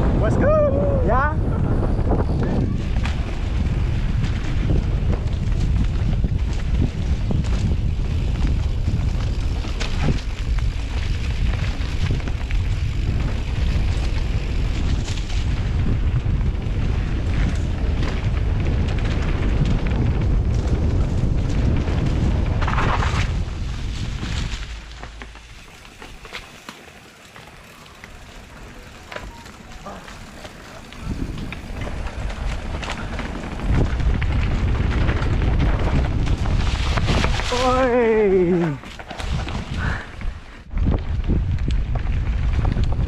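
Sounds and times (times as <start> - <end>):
wind buffeting microphone: 0.0 - 43.0
bike clicking and rattling: 1.5 - 43.0.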